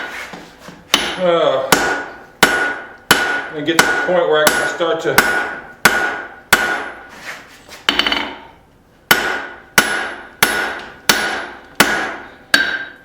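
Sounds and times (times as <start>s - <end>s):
hammer striking hot steel on anvil: 0.9s - 7.1s, 7.9s - 13.0s.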